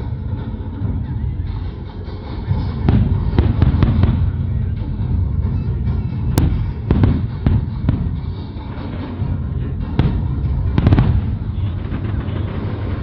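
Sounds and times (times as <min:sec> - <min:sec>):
low rumble of distant bursts: 0:00.0 - 0:13.0
fireworks bursting with sharp bangs: 0:02.5 - 0:13.0.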